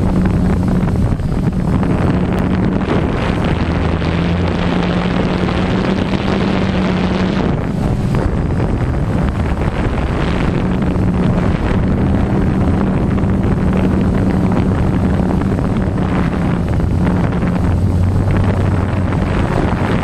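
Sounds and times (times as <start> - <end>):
drone propellers humming: 0.0 - 20.0
wind on microphone: 0.0 - 20.0.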